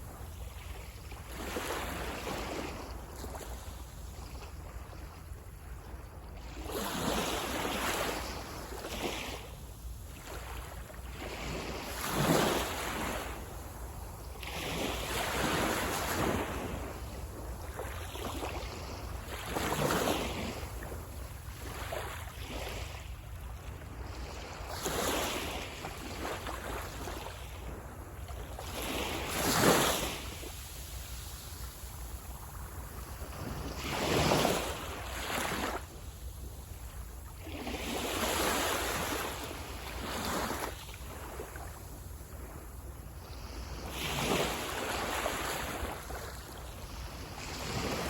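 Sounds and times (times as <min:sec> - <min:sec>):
waves breaking on shore: 0:05.8 - 0:48.0.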